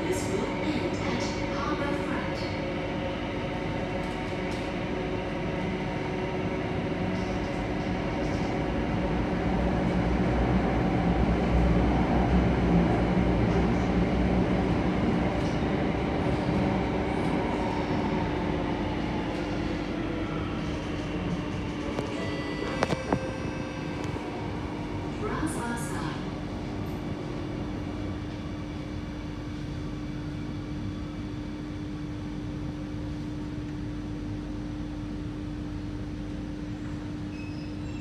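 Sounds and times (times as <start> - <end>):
metro train rumble and wheel noise: 0.0 - 38.0.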